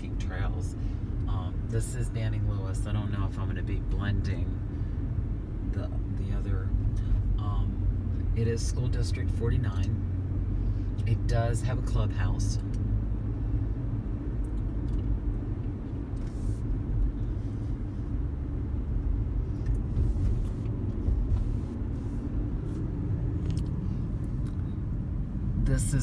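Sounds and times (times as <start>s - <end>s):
car engine and tyre drone: 0.0s - 26.0s.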